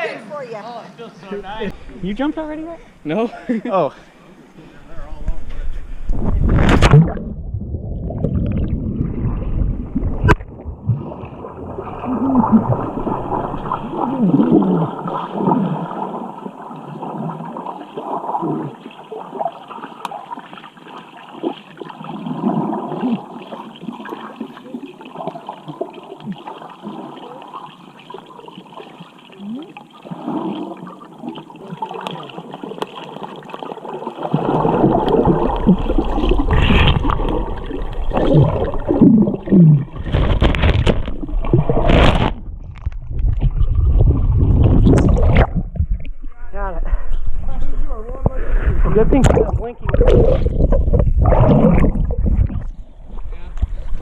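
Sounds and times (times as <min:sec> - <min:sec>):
muffled underwater bubbling: 0:05.9 - 0:54.0
water splash: 0:06.1 - 0:46.2, 0:48.8 - 0:53.1.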